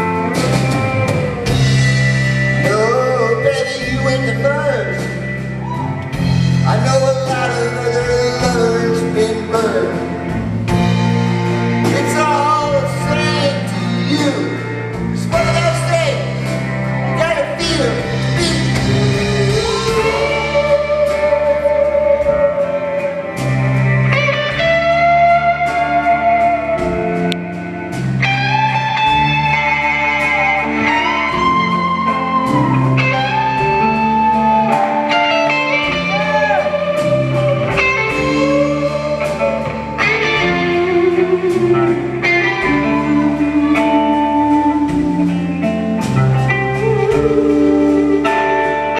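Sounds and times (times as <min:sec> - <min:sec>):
electric lead guitar: 0:00.0 - 0:48.9
live rock band playing: 0:00.0 - 0:48.9.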